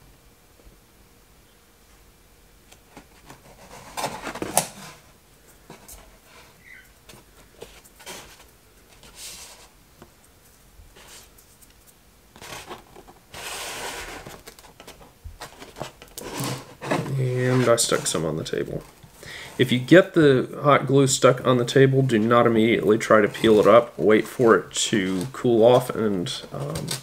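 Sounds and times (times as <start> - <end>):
foam board rustling and scraping: 2.8 - 9.8, 10.4 - 20.0, 21.0 - 27.0.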